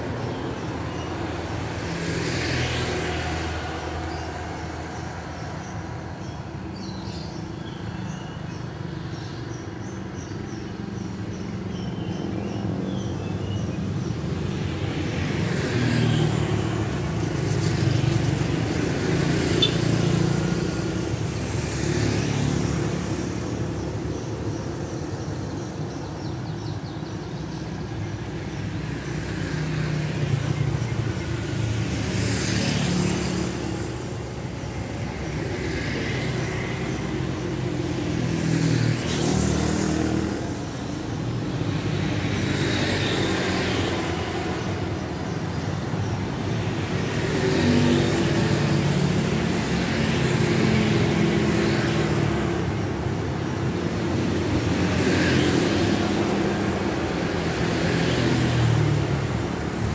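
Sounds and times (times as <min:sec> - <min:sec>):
scooters and motorcycles passing: 0:00.0 - 0:59.9.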